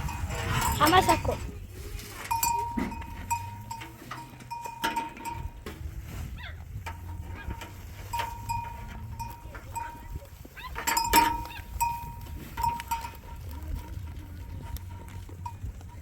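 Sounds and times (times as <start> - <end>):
animal bells clinking: 0.0 - 16.0
low steady rumble: 0.0 - 16.0.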